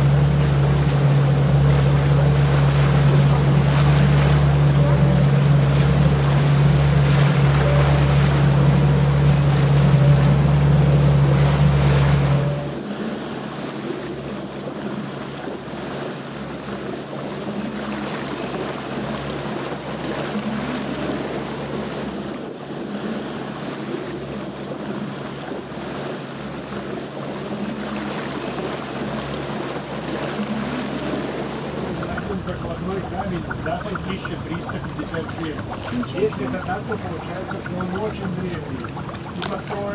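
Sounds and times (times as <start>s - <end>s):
motorboat engine humming: 0.0s - 39.9s
water washing against hull: 0.0s - 39.9s.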